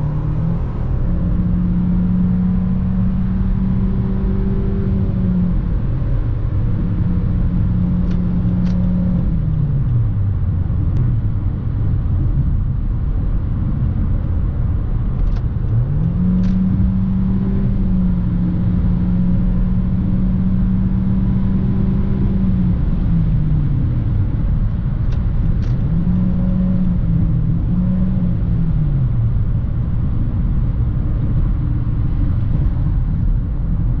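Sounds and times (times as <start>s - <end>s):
car engine drone: 0.0s - 34.0s
road and tyre noise: 0.0s - 34.0s.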